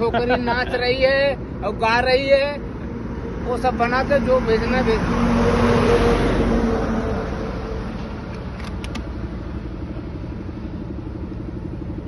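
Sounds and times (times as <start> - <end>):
vehicle engine idling: 0.0 - 5.0, 6.4 - 12.0.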